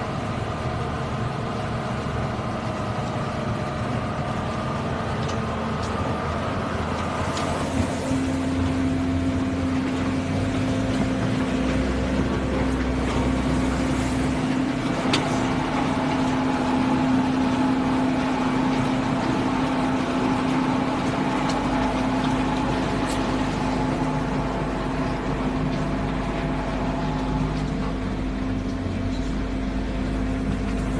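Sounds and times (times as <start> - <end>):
concrete mixer droning: 0.0 - 30.9.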